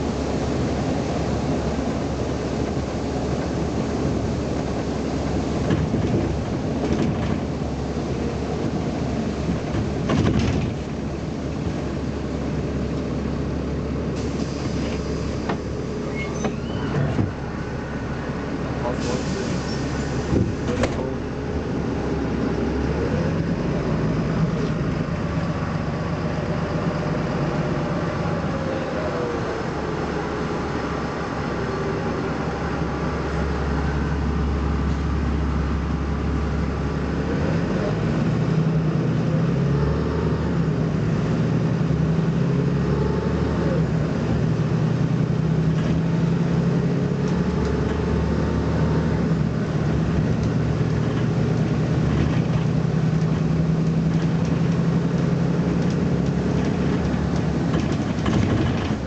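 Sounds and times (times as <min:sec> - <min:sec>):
bus engine revving through gears: 0:00.0 - 0:59.0.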